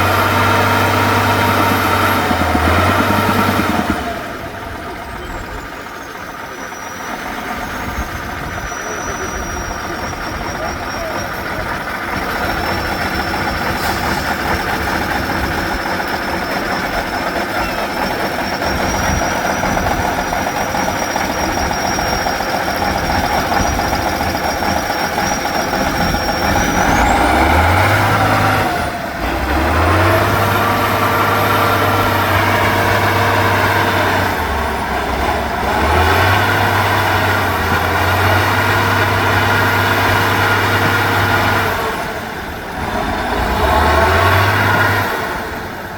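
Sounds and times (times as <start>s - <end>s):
truck engine working hard: 0.0s - 45.9s.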